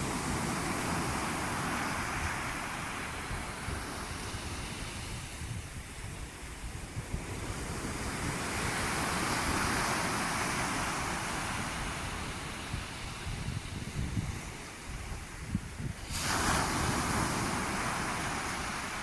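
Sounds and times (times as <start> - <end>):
sea waves washing on shore: 0.0 - 19.0
wind rumble on microphone: 0.0 - 19.0.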